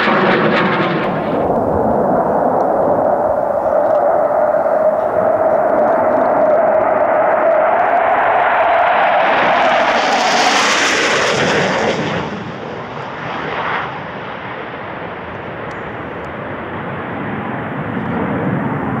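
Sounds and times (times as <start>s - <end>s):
jet passing low: 0.0s - 19.0s.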